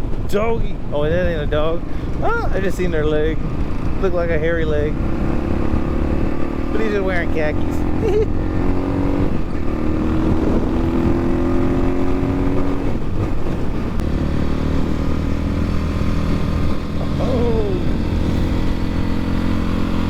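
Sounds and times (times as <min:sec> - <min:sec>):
dirt bike engine running: 0:02.9 - 0:20.0.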